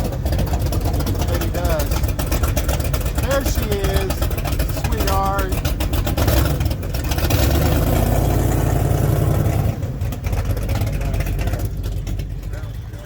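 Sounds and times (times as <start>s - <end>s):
car exhaust rumble passing: 0.0s - 13.0s.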